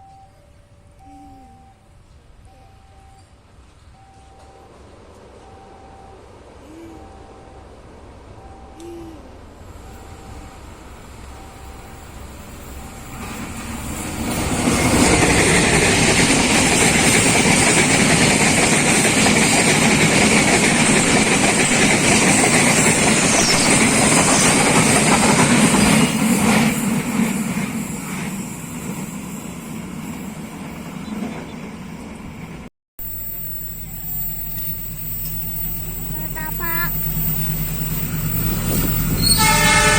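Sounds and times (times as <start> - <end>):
train wheels on rails: 2.0 - 8.8, 9.4 - 39.9.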